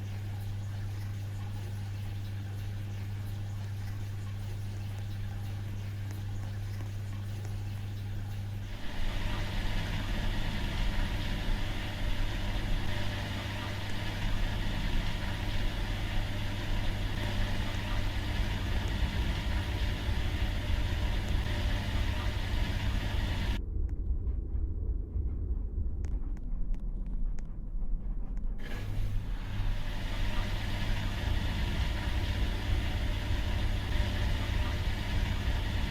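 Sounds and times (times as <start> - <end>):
washing machine running: 0.0 - 23.6, 28.6 - 35.9.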